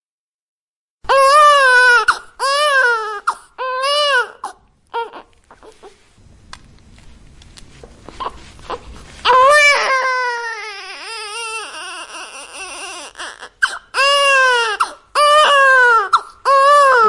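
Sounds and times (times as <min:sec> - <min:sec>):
newborn baby crying: 0:01.1 - 0:06.0, 0:08.1 - 0:17.0.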